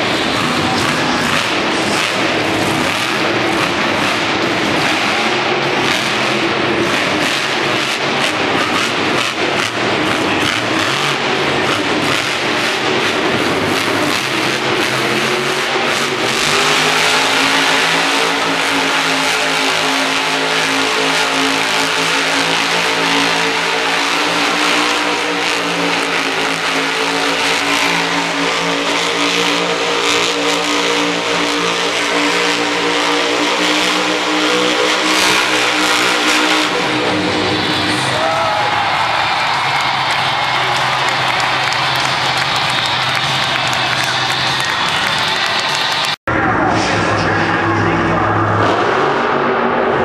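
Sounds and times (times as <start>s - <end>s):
monster truck engine revving high: 0.0s - 50.0s.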